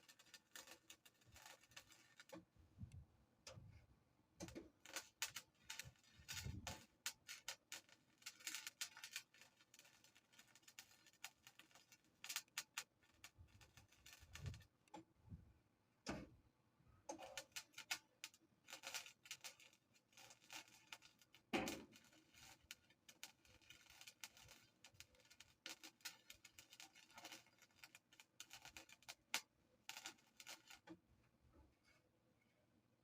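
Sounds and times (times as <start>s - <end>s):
faint welding crackle: 0.0s - 15.1s, 17.0s - 32.0s.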